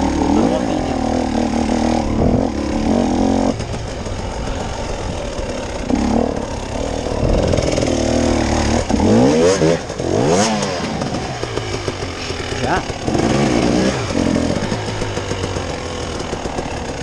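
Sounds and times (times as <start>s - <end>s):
engine revving: 0.0s - 17.0s
vehicle engine running under load: 0.0s - 17.0s.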